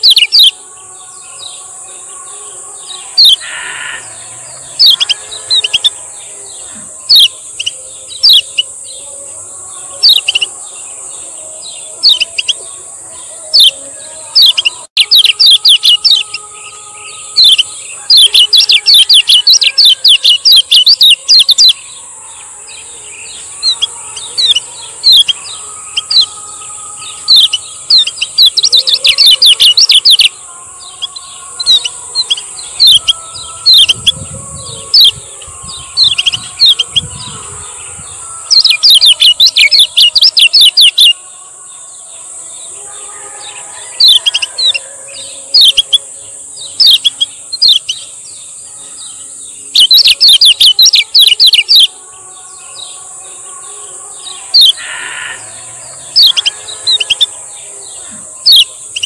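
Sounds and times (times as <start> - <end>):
bird chirping song: 0.0 - 59.0.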